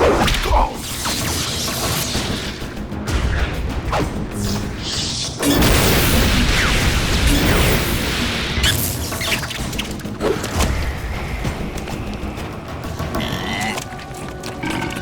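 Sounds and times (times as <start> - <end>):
orchestral score: 0.0 - 15.0.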